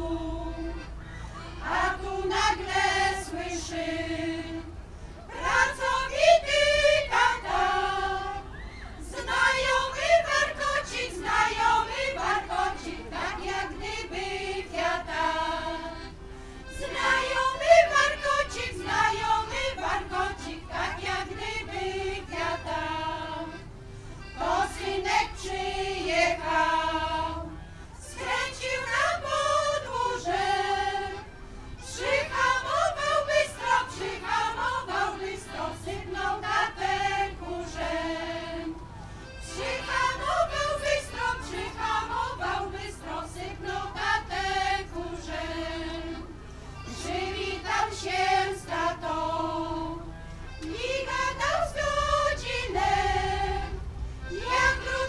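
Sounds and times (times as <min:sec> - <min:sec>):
accordion: 0:00.0 - 0:55.0
women's choir singing: 0:00.0 - 0:55.0.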